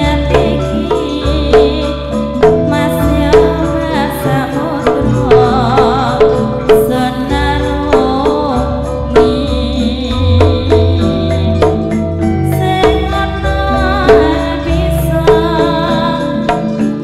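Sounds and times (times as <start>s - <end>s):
drum strokes: 0.0s - 17.0s
metallophone notes ringing: 0.0s - 17.0s
woman singing: 0.0s - 17.0s.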